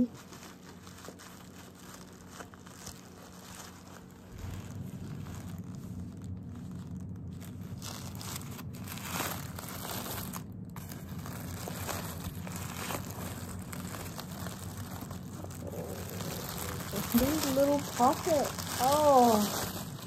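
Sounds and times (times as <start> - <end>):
steady low hum: 0.0 - 20.0
tissue paper crinkling: 0.0 - 20.0.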